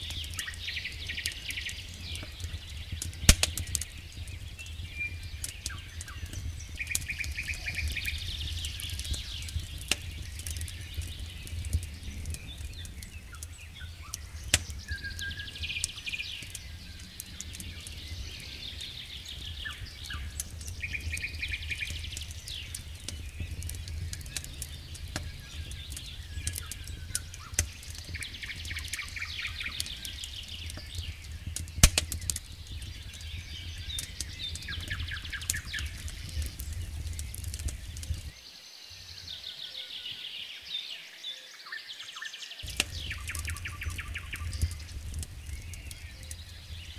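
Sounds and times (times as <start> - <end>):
campfire crackling and popping: 0.0 - 39.3, 42.6 - 46.9
songbirds chirping and trilling: 0.0 - 46.9.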